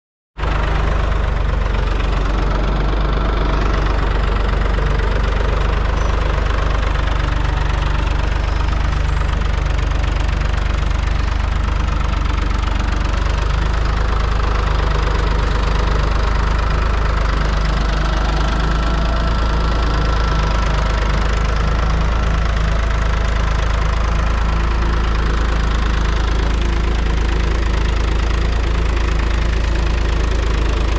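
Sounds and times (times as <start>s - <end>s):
tractor diesel engine under load: 0.4s - 30.9s.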